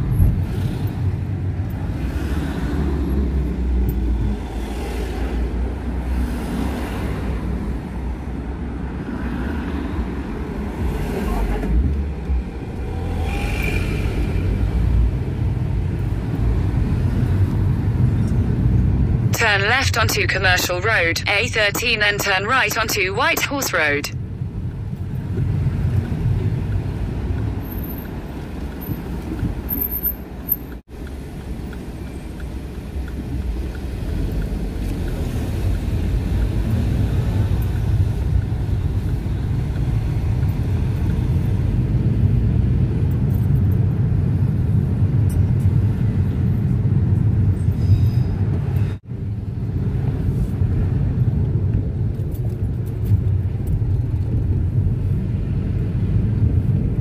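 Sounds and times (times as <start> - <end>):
car engine and tyres rumbling: 0.0 - 19.3, 24.2 - 57.0.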